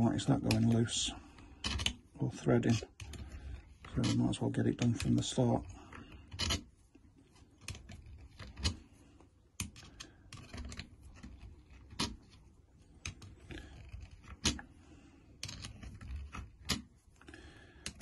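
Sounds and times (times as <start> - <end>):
faint scraping and handling: 0.0 - 18.0.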